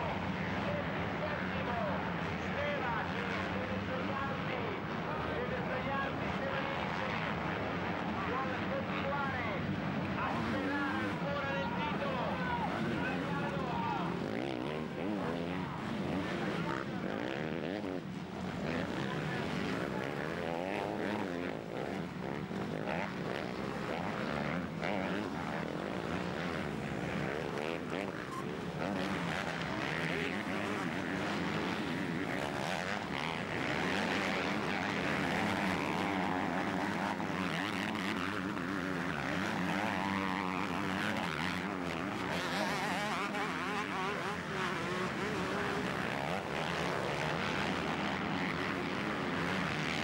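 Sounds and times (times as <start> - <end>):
motocross bike engines racing: 0.0 - 50.0.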